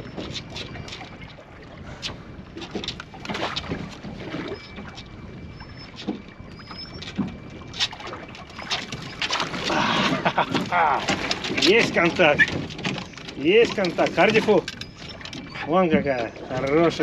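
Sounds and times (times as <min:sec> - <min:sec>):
water splashing around boat: 0:00.0 - 0:17.0.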